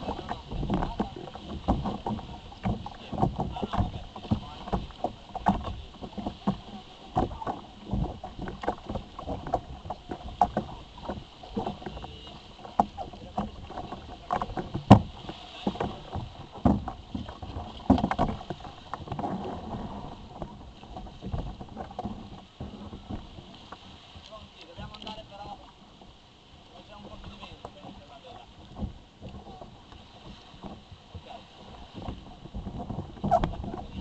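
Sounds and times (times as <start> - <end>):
sharp knock on hull: 0.0 - 23.5, 27.1 - 34.0
water slapping against kayak hull: 0.0 - 34.0.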